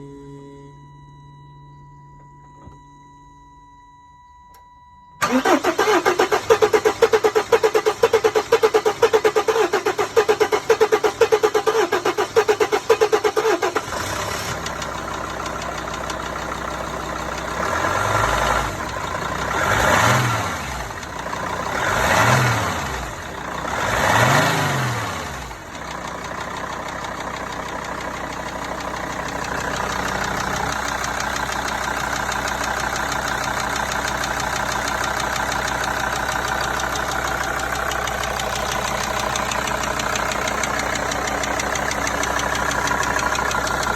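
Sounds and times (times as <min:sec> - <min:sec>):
diesel engine clattering and revving: 0:05.2 - 0:43.9.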